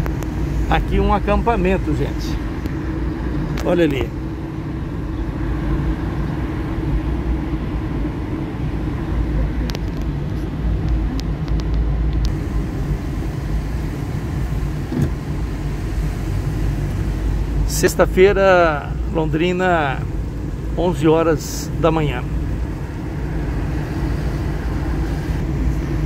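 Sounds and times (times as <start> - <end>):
car engine rumble: 0.0 - 26.0
tyres on wet road: 0.0 - 26.0.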